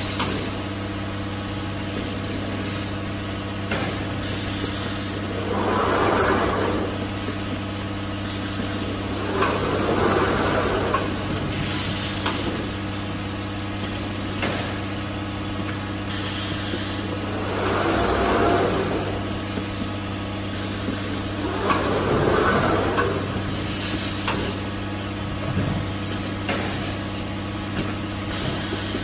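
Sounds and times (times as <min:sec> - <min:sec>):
machine hum: 0:00.0 - 0:29.0
mechanical whirring and hiss: 0:00.0 - 0:29.0.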